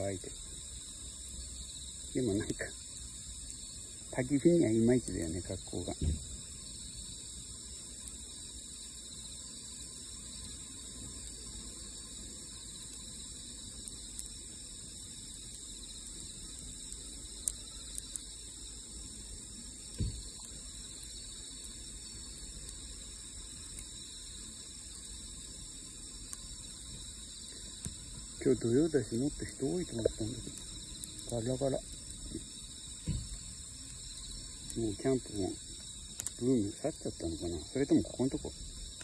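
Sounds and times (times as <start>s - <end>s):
night insects trilling: 0.0s - 39.0s.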